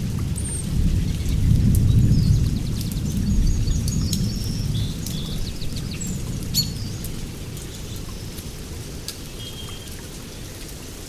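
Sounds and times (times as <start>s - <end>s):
rain on foliage: 0.0s - 11.0s
sharp close raindrops: 0.0s - 11.0s.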